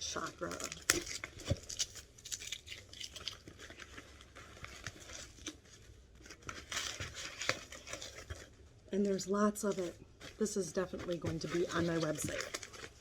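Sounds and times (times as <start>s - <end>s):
packing paper rustling: 0.0s - 13.0s.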